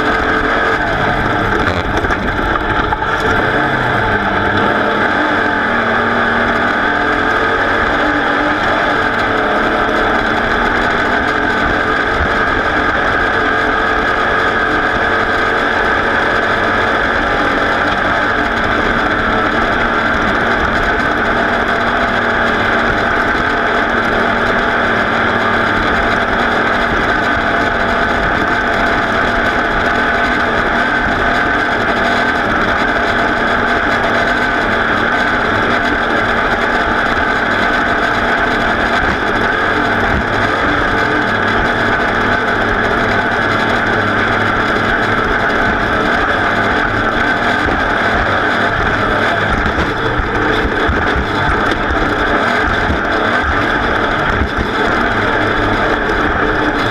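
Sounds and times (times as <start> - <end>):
racing engine running hard: 0.0 - 56.9.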